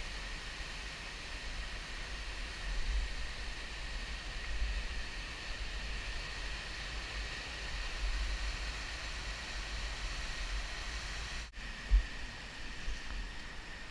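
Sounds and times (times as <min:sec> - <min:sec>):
low rumble of water: 0:00.1 - 0:13.9.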